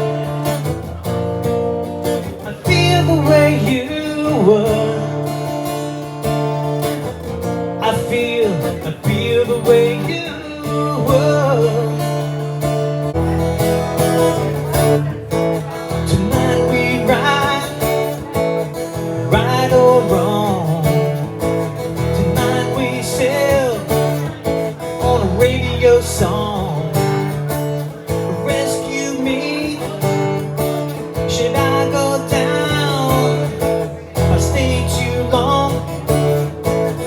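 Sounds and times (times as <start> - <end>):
sliding guitar melody: 0.0 - 37.0
strummed acoustic guitar: 0.0 - 37.0.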